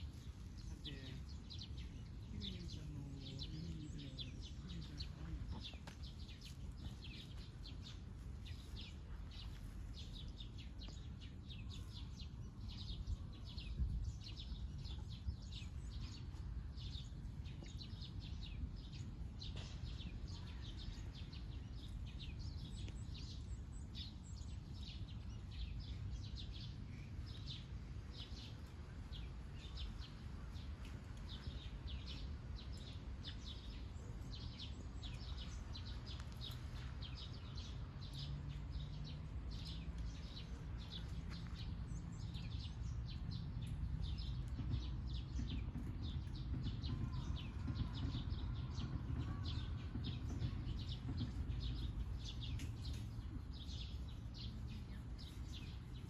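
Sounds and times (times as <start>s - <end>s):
birds chirping: 0.0s - 56.0s
low rumble: 0.0s - 56.0s.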